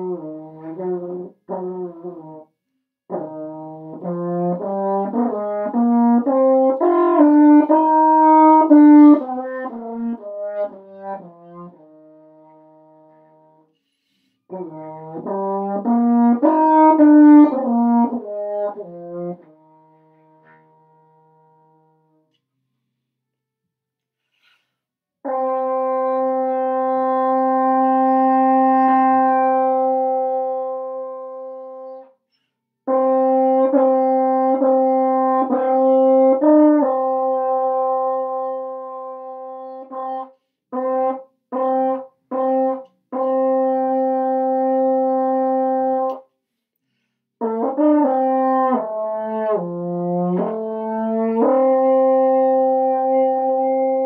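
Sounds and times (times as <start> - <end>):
french horn playing scales: 0.0 - 22.2, 25.2 - 32.0, 32.8 - 46.2, 47.4 - 54.0.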